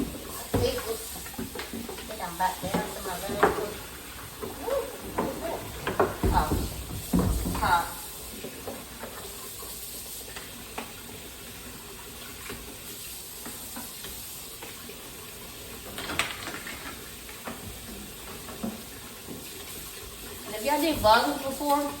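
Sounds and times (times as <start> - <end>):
kitchen tap running: 0.0 - 22.0.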